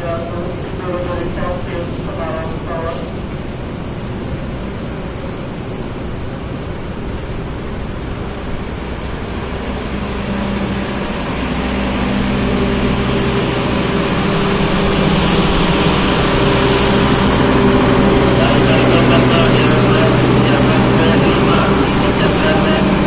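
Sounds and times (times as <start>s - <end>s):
locomotive engine humming: 0.0s - 23.0s.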